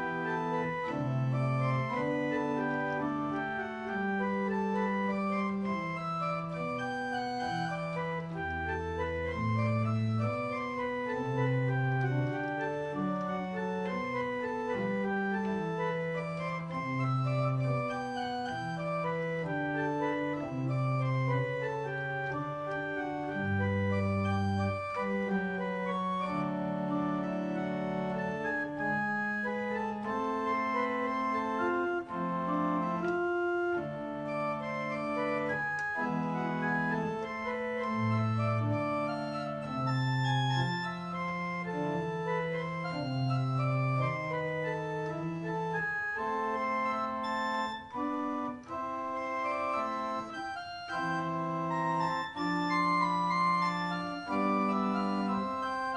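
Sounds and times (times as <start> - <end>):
pipe organ chords: 0.0 - 55.9.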